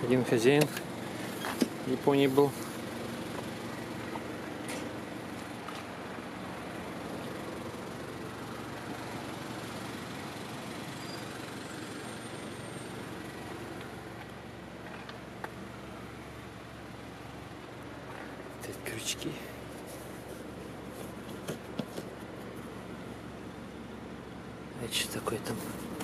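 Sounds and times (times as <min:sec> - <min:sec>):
low vehicle hum: 0:00.0 - 0:26.0.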